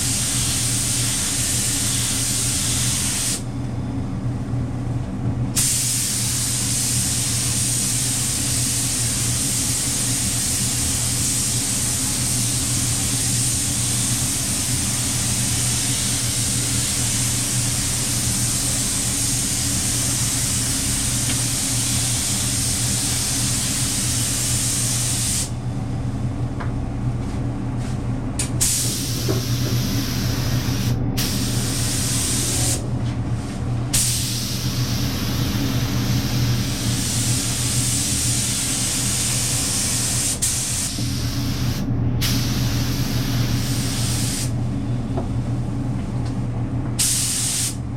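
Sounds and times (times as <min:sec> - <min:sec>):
spray gun hissing: 0:00.0 - 0:03.4, 0:05.6 - 0:25.5, 0:28.6 - 0:32.8, 0:34.0 - 0:44.6, 0:47.0 - 0:47.8
steady machine hum: 0:00.0 - 0:47.9.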